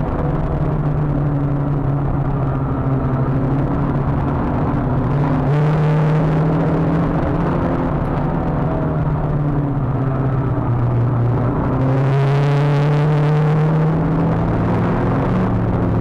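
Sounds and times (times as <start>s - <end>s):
car engine pulling hard: 0.0s - 16.0s.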